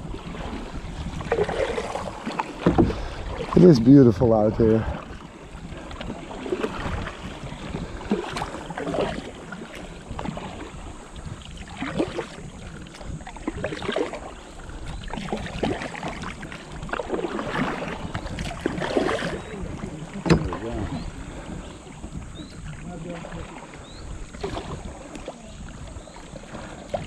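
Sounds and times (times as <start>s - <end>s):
paddles splashing in water: 0.0s - 27.0s
wind rumble on microphone: 0.0s - 27.0s.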